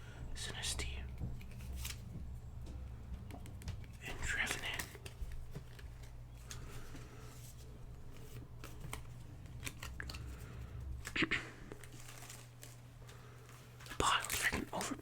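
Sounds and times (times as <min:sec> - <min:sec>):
trading cards clicking and rustling: 0:00.5 - 0:15.0.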